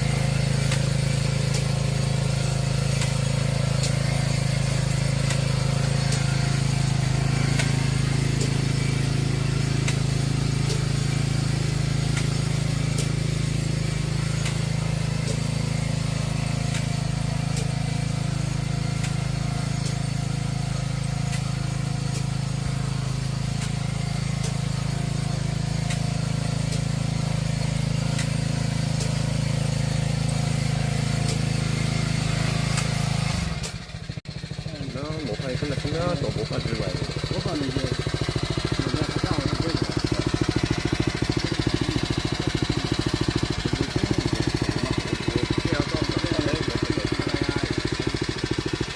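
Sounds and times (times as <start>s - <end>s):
transplanter engine running: 0.0s - 48.9s.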